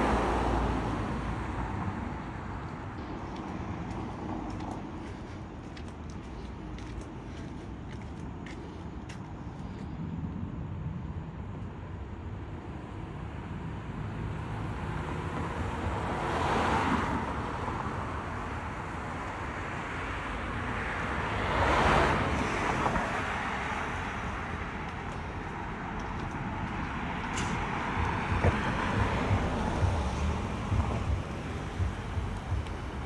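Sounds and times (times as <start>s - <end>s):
cars driving past: 0.0s - 10.8s, 12.2s - 33.0s
wind rumble on microphone: 0.0s - 33.0s.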